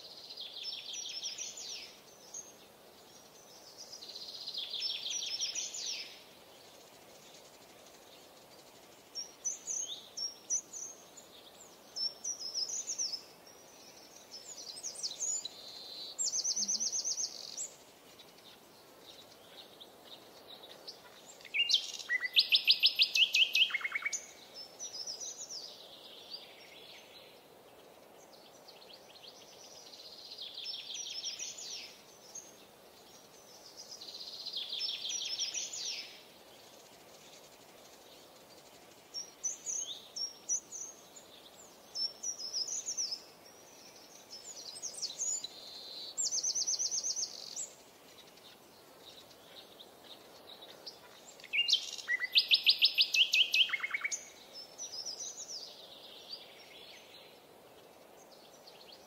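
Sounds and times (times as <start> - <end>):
faint steady hiss: 0.0 - 59.0
songbirds singing: 0.0 - 59.0.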